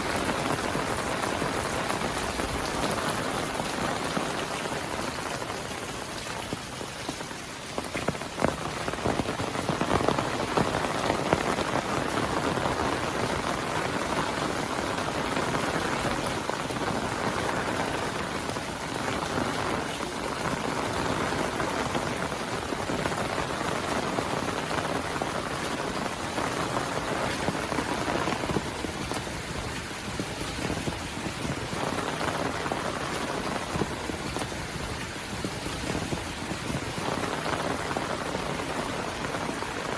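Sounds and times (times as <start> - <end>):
heavy rain falling: 0.0 - 39.9
sharp raindrop hits: 0.0 - 39.9.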